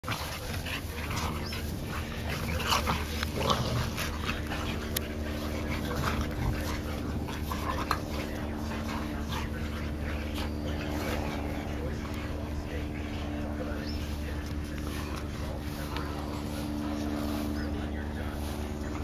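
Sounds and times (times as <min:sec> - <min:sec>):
dogs play-wrestling noises: 0:00.0 - 0:19.0
low hum: 0:00.0 - 0:19.0.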